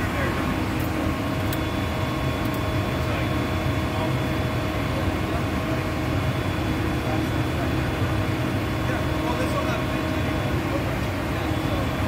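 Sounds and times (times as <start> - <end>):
diesel engine low rumble: 0.0 - 12.0.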